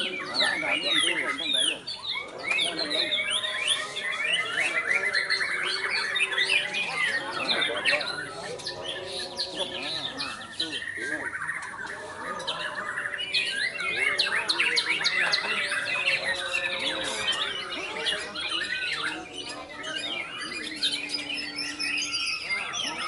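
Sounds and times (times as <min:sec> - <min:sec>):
songbirds singing: 0:00.0 - 0:23.0.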